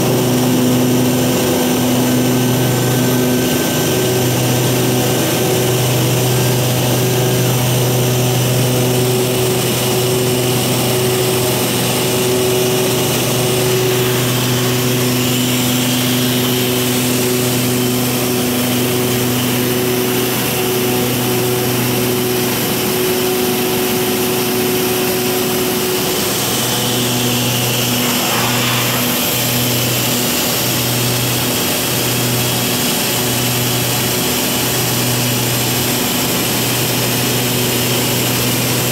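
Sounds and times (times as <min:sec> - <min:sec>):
turboprop cabin drone: 0:00.0 - 0:38.9.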